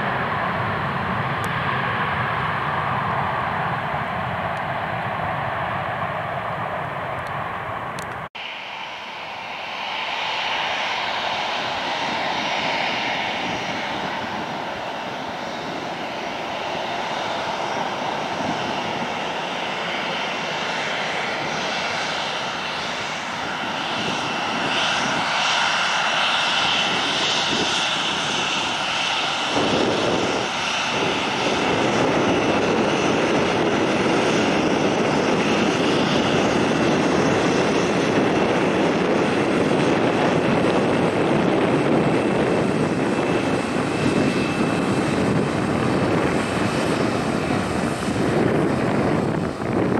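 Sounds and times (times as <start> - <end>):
jet engines whining at taxi power: 0.0 - 49.9.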